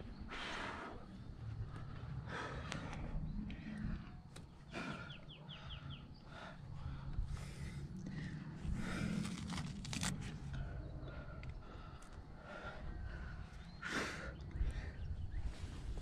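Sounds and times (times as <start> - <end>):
low rumble: 0.0 - 16.0
man breathing hard: 0.0 - 16.0.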